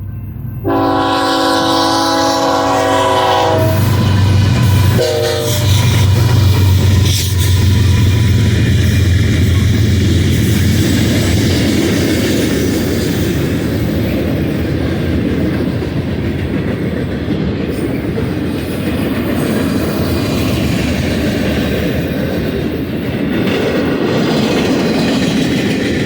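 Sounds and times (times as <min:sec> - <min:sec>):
train wheels rumbling on rails: 0:00.0 - 0:26.0
wheels clacking over rail joints: 0:03.4 - 0:26.0.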